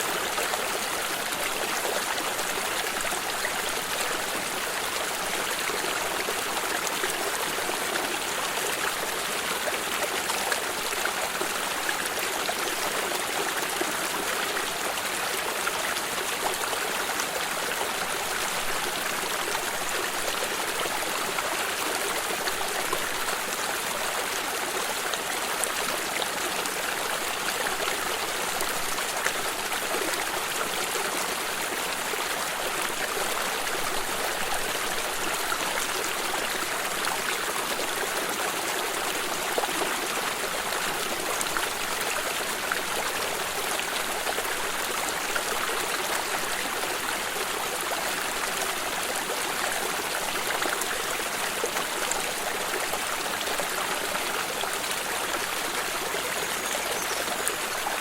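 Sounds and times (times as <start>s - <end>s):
water stream trickling: 0.0s - 58.0s.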